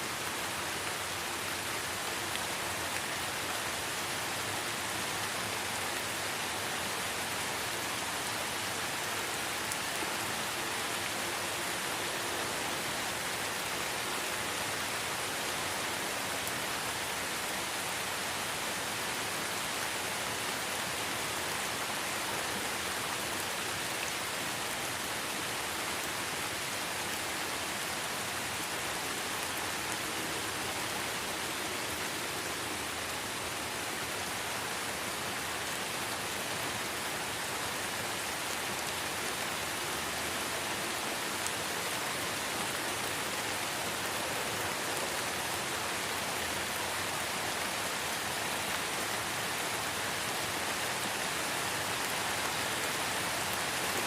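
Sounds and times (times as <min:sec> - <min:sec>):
light rain in a forest: 0:00.0 - 0:54.0.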